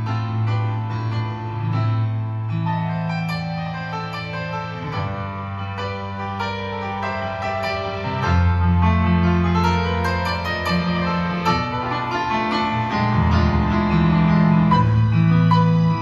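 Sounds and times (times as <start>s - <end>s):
keyboard chords: 0.0s - 16.0s.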